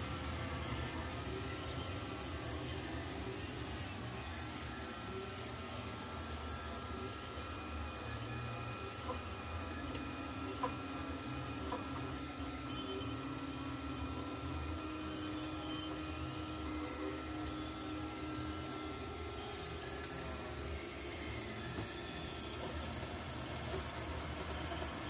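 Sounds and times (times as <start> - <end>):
printer motors whining: 0.0 - 25.0.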